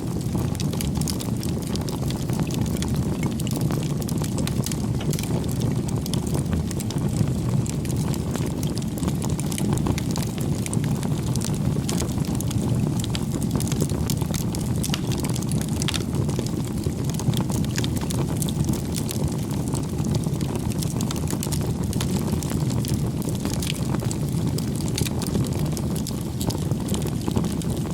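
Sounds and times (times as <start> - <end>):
low rumble of flames: 0.0 - 27.9
wood crackling and popping: 0.0 - 27.9.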